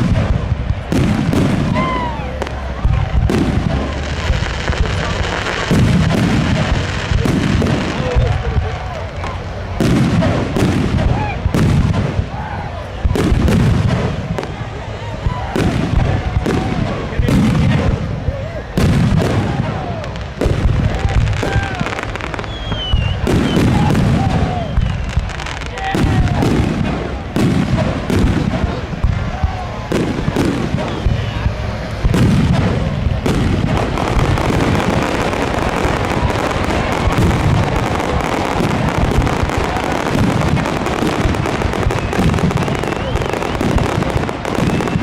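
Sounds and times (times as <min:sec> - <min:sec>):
loud bangs: 0:00.0 - 0:45.0.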